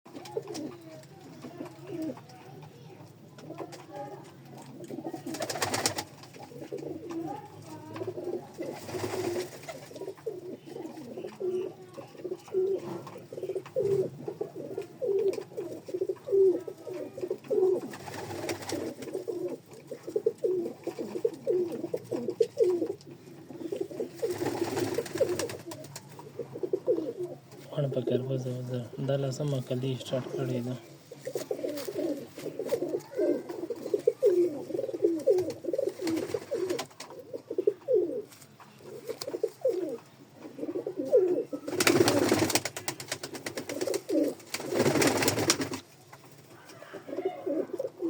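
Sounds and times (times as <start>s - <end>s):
pigeons cooing: 0.1s - 2.3s, 3.4s - 45.8s, 46.4s - 48.0s.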